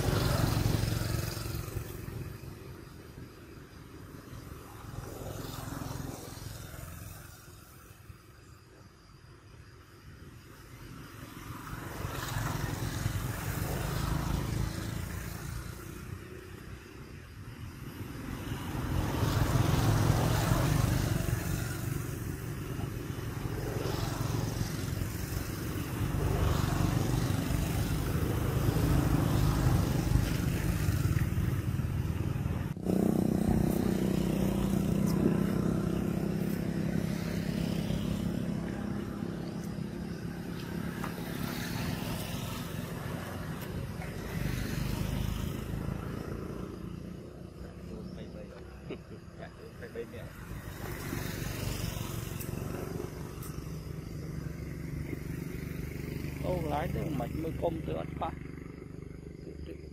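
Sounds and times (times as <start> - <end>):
steady engine hum: 0.0 - 8.6, 9.7 - 59.9
vehicle engines rumbling by: 0.0 - 59.9.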